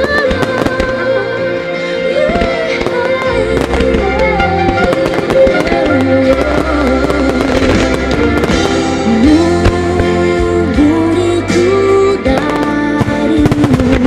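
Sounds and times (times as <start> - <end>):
fireworks banging and crackling: 0.0 - 1.3, 2.2 - 10.5, 12.3 - 14.0
instrumental music: 0.0 - 14.0.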